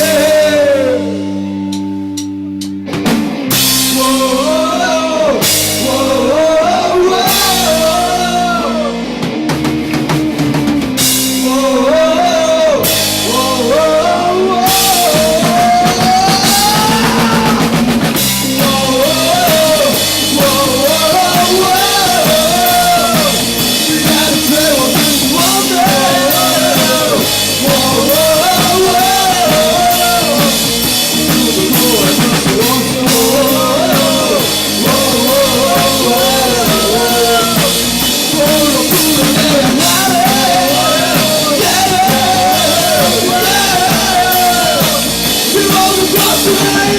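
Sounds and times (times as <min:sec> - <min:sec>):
rock band playing live: 0:00.0 - 0:46.9.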